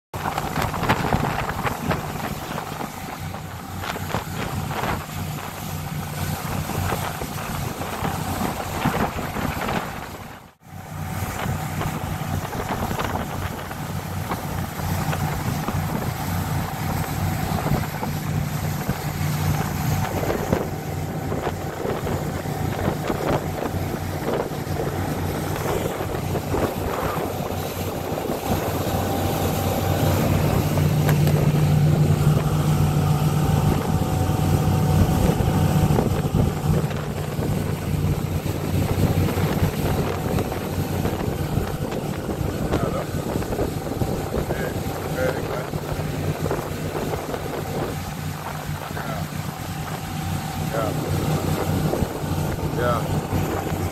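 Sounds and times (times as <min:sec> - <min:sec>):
motorboat engine drone: 0:00.1 - 0:53.9
rushing water: 0:00.1 - 0:53.9
wind buffeting microphone: 0:00.1 - 0:53.9.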